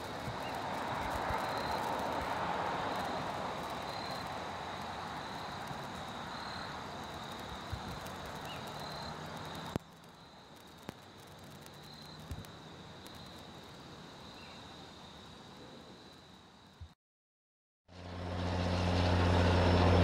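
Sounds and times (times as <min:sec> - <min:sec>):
distant vehicle noise: 0:00.0 - 0:15.9, 0:17.9 - 0:20.0
insects trilling: 0:00.0 - 0:16.9.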